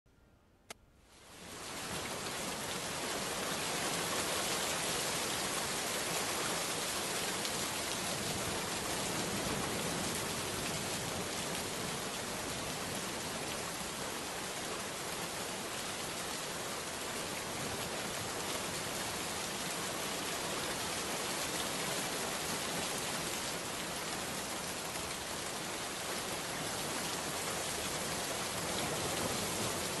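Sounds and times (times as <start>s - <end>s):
steady rain: 1.1s - 30.0s.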